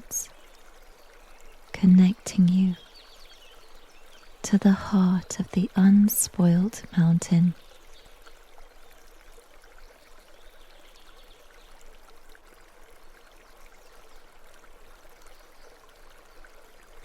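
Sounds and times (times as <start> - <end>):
small stream babbling: 0.0 - 17.0.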